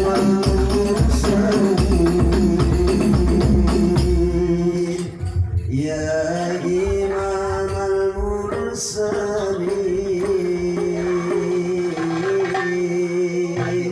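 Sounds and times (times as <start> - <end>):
frame drums: 0.0 - 13.9
man singing: 0.0 - 13.9.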